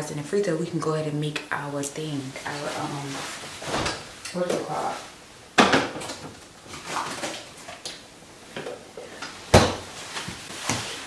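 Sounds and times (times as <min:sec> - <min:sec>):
faint kitchen clatter: 0:00.0 - 0:11.0.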